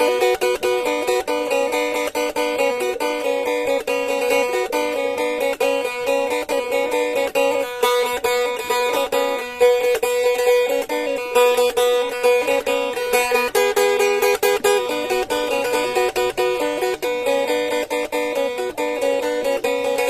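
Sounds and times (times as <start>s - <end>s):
plucked lute: 0.0s - 20.0s.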